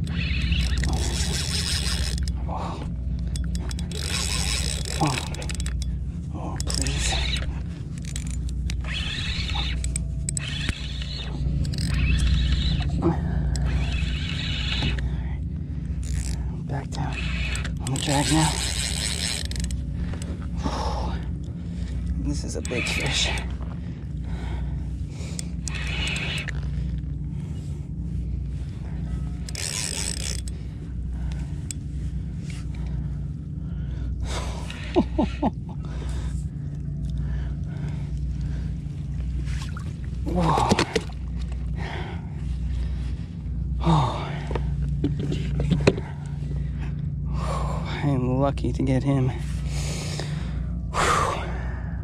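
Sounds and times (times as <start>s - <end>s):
fishing reel whirring: 0.0s - 48.1s, 48.7s - 52.0s
steady low hum: 0.0s - 52.0s
steady low rumble: 0.0s - 52.0s.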